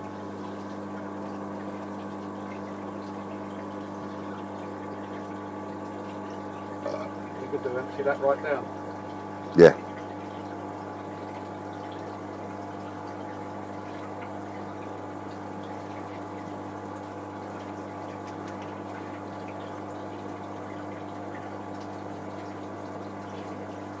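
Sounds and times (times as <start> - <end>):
water pump humming: 0.0 - 24.0.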